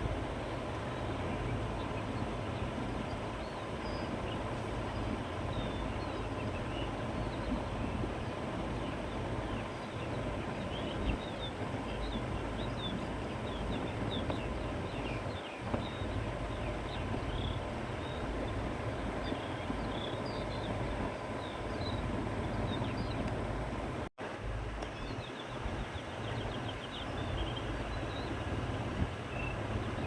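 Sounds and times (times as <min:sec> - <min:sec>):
wind blowing through grass: 0:00.0 - 0:30.0
small birds chirping: 0:00.8 - 0:23.4, 0:24.8 - 0:30.0.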